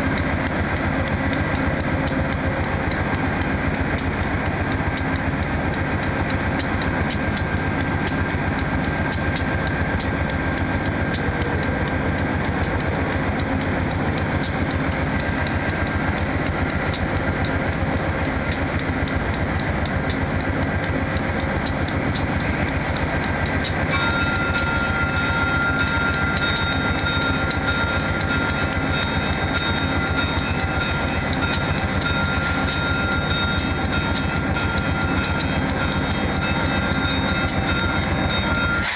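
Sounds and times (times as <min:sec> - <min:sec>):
diesel locomotive engine throbbing: 0:00.0 - 0:38.9.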